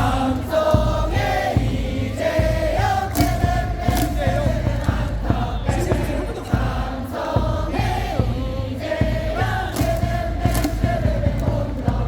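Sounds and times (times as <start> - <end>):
amplified stadium music: 0.0 - 12.0
crowd singing a cheer song: 0.0 - 12.0.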